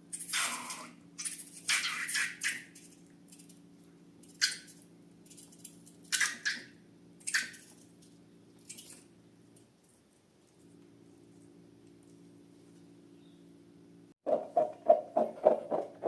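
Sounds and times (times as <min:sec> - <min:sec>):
faint steady hum: 0:00.0 - 0:14.2.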